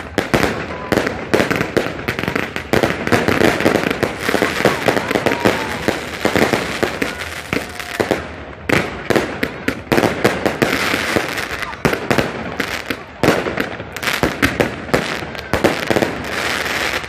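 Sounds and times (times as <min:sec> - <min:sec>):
fireworks crackles: 0:00.0 - 0:17.0
fireworks mortars firing: 0:00.0 - 0:17.0.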